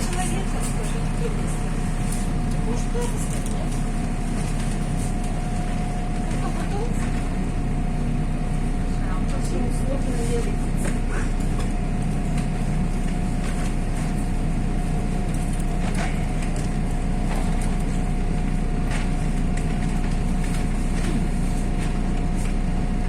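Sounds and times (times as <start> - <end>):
bus engine and road rumble: 0.0 - 23.0
constant whine: 0.0 - 23.0.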